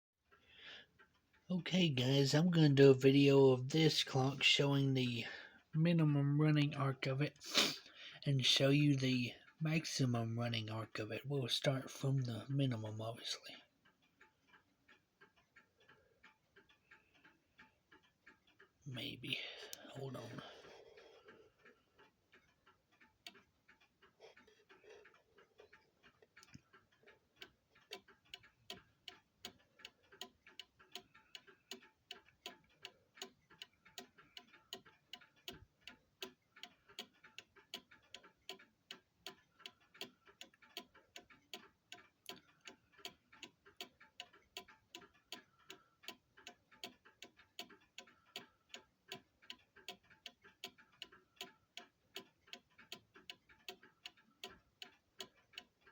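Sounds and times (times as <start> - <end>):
clock escapement ticking: 0.3 - 55.9.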